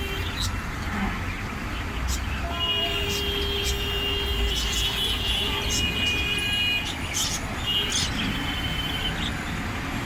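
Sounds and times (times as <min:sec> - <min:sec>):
small birds chirping: 0:00.0 - 0:09.8
road traffic rumble: 0:00.0 - 0:10.0.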